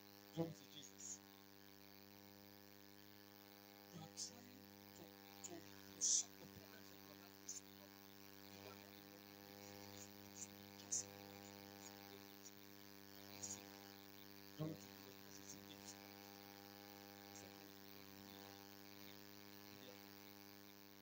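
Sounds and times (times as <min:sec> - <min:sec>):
faint electrical mains hum: 0:00.0 - 0:21.0.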